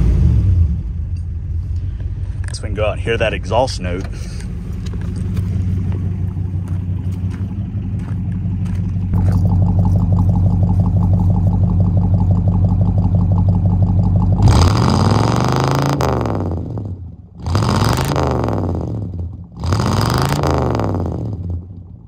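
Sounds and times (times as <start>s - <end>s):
engine revving: 0.0s - 1.1s, 2.4s - 21.8s
car engine idling: 0.0s - 22.0s.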